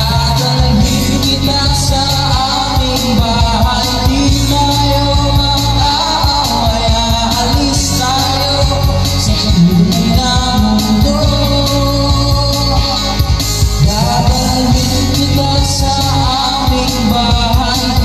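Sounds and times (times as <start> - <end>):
backing music with steady beat: 0.0 - 18.0
man singing into a microphone: 0.0 - 18.0.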